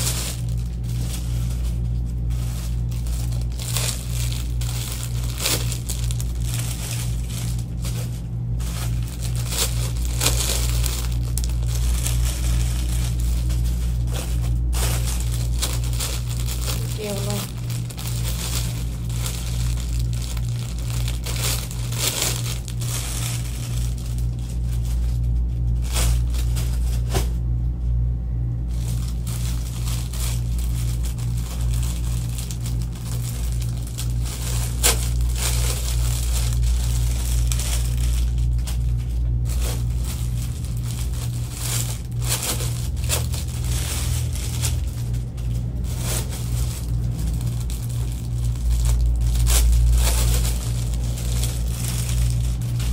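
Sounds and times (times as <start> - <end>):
plastic bags crinkling: 0.0 - 27.4, 28.6 - 52.9
steady low hum: 0.0 - 52.9.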